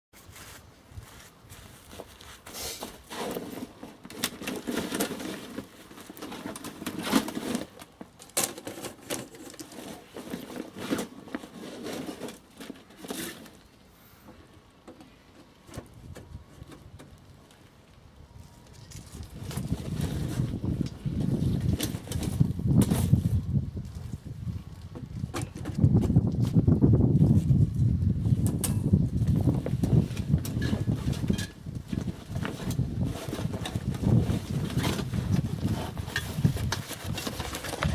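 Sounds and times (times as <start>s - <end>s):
crackling and rustling: 0.2s - 37.9s.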